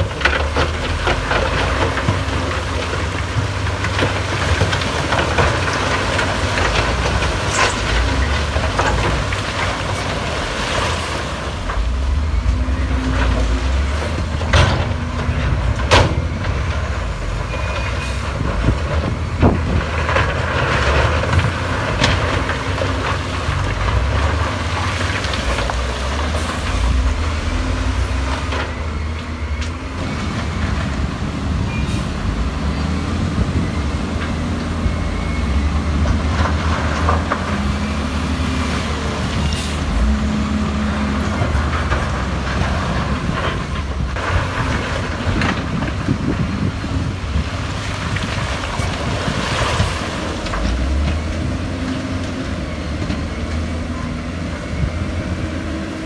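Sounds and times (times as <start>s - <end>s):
heavy diesel machinery rumble: 0.0s - 56.0s.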